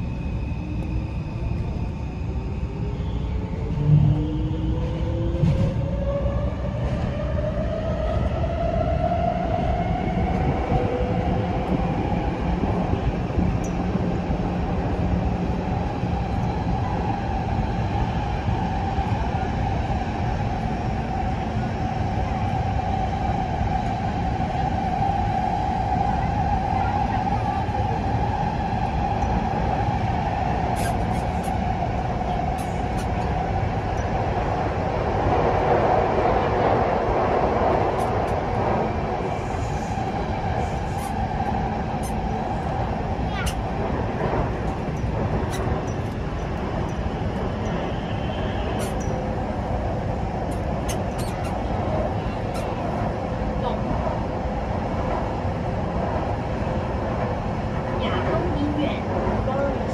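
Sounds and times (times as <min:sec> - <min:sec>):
wheels rumbling on rails: 0:00.0 - 0:59.9.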